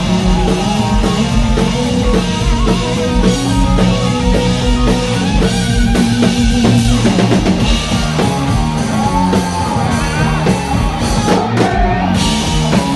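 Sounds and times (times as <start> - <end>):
lead guitar bending notes: 0.0 - 11.3
distorted electric guitars: 0.0 - 12.9
drum kit: 0.0 - 12.9.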